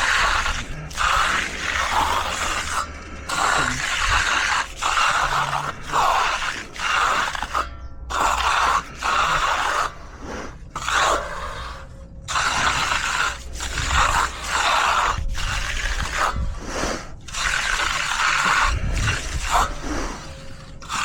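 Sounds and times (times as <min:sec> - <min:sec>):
hand tool scraping wet concrete: 0:00.0 - 0:21.0.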